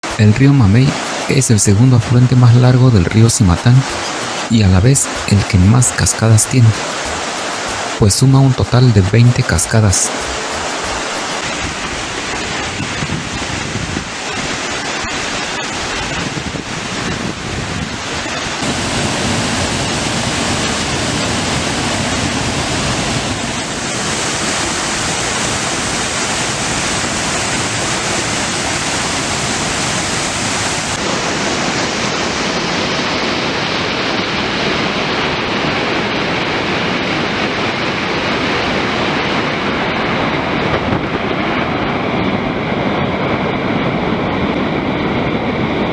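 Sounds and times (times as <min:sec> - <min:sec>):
waterfall rushing: 0:00.0 - 0:42.6.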